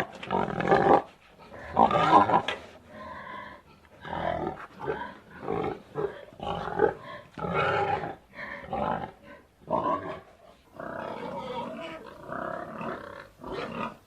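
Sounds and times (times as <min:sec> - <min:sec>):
pig grunting: 0:00.0 - 0:14.0.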